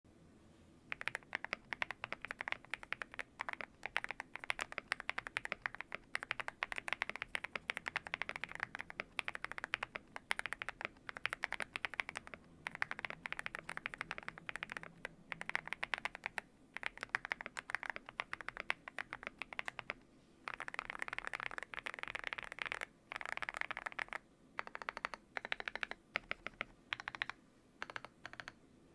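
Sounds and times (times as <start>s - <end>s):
typing on mechanical keyboard: 0.9s - 28.6s.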